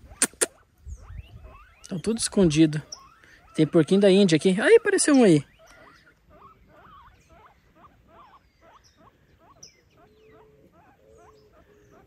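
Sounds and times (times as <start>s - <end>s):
guinea pigs squeaking: 0.0s - 12.0s.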